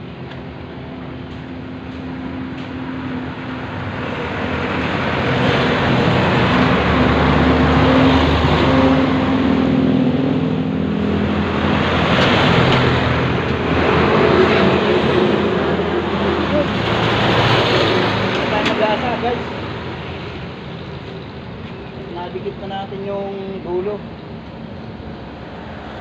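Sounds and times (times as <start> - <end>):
vehicle engine passing close: 0.0 - 22.0, 24.3 - 26.0.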